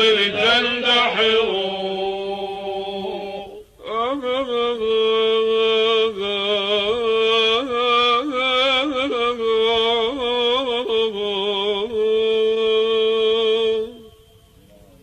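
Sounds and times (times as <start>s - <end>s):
man singing religious chant: 0.0s - 14.6s.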